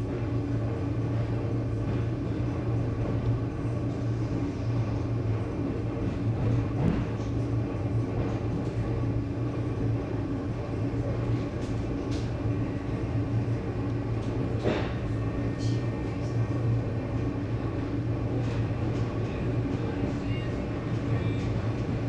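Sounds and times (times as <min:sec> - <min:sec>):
train carriage running hum: 0:00.0 - 0:22.0.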